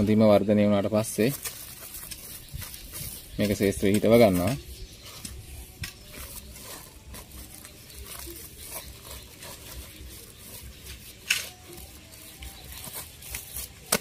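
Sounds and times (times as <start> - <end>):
plastic sack rustling: 1.0 - 14.0
soft scrapes of soil: 1.0 - 14.0.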